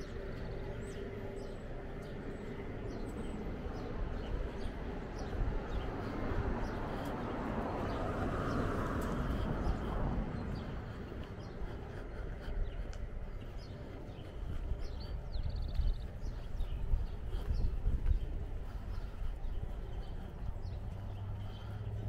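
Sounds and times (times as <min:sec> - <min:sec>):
birds chirping: 0:00.0 - 0:22.0
car passing: 0:00.0 - 0:22.0
low outdoor rumble: 0:00.0 - 0:22.0.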